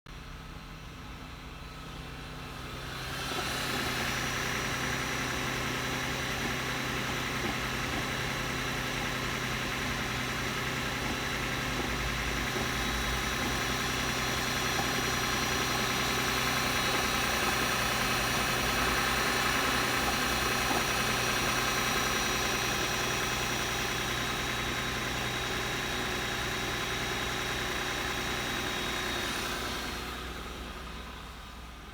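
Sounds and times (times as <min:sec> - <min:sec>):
car engine running: 0:00.2 - 0:31.9.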